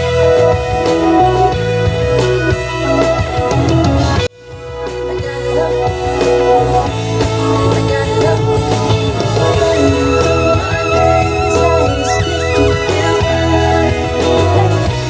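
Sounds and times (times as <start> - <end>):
band music: 0.0 - 15.0.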